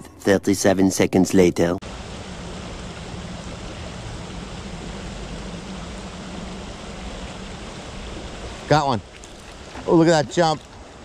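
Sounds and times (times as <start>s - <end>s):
river water flowing: 1.8s - 11.0s.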